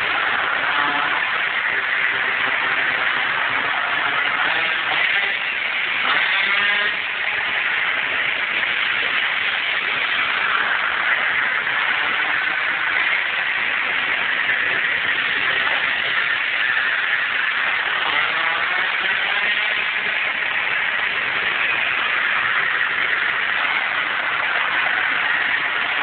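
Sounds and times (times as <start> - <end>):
go-kart engines buzzing: 0.0 - 26.0
kart engine revving up: 0.0 - 26.0.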